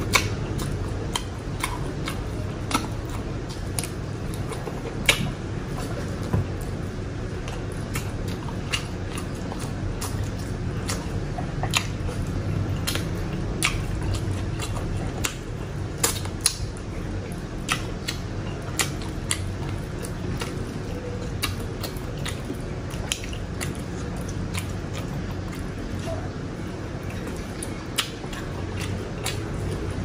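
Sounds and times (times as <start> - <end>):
chewing with mouth clicks: 0.0 - 30.0
steady low hum: 0.0 - 30.0.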